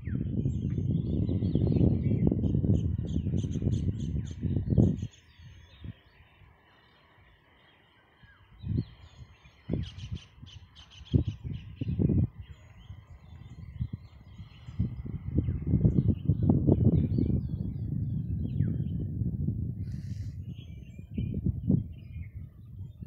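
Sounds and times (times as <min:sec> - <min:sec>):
low rumble on microphone: 0:00.0 - 0:23.0
small birds chirping: 0:00.0 - 0:23.0.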